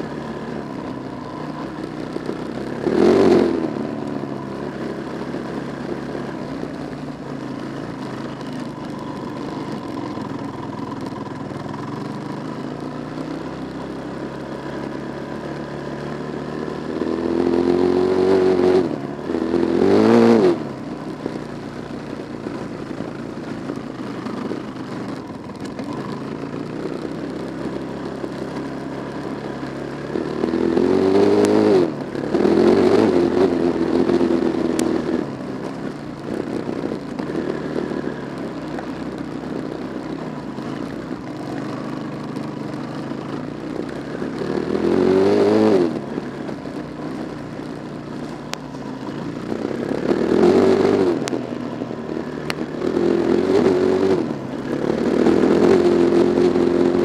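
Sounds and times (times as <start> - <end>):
car engine accelerating: 0.0 - 57.0
road noise: 0.0 - 57.0.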